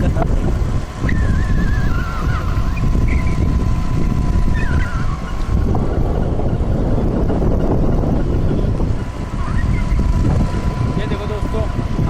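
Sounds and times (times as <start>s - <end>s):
scooter engine running: 0.0s - 12.0s
wind buffeting microphone: 0.0s - 12.0s.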